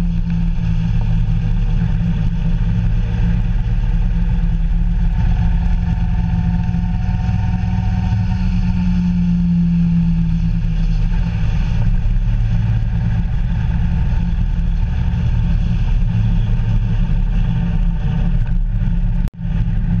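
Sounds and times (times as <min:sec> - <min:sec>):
road and wind noise: 0:00.0 - 0:20.0
vehicle engine running: 0:00.0 - 0:20.0.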